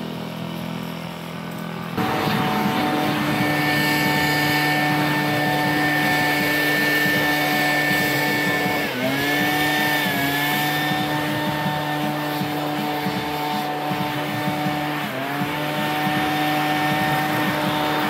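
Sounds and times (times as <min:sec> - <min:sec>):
leaf blower running: 0:00.0 - 0:18.0.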